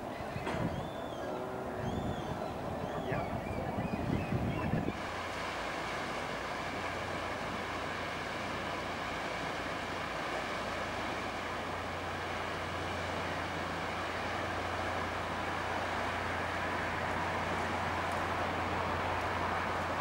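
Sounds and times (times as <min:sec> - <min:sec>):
ferry engine drone: 0:00.0 - 0:20.0.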